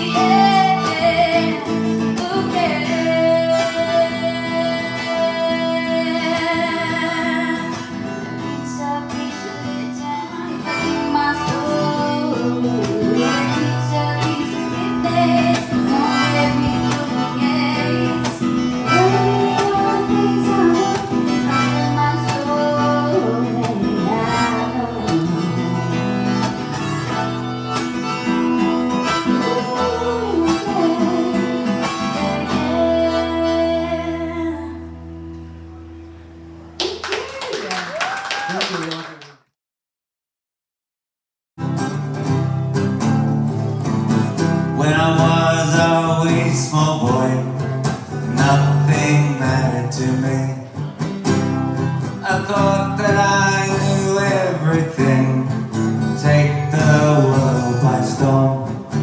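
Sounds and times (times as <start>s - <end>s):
acoustic guitar music: 0.0s - 37.0s, 41.6s - 59.0s.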